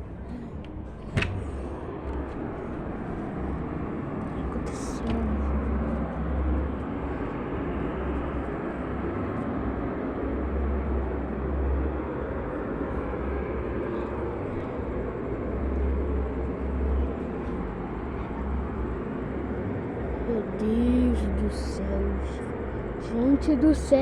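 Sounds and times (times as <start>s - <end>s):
distant factory rushing noise: 0.0s - 24.0s.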